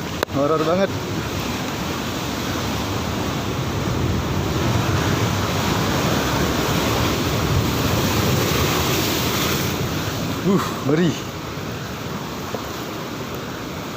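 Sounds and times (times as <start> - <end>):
heavy waves breaking: 0.0 - 13.9
wind noise: 0.0 - 13.9.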